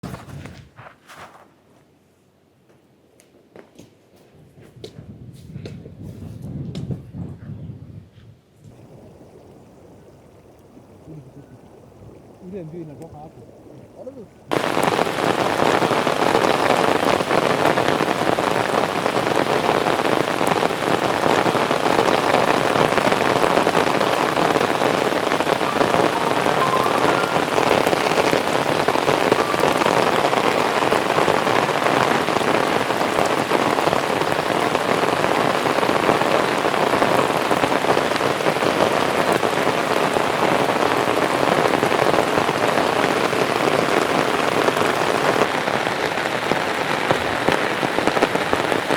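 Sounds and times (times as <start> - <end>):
heavy rain falling: 8.7 - 48.9.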